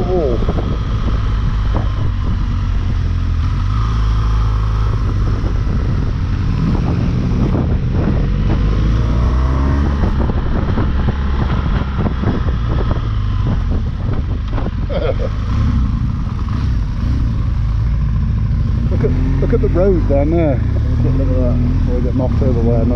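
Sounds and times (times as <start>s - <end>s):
motorcycle engine accelerating: 0.0s - 22.9s
wind rushing over microphone: 0.0s - 22.9s.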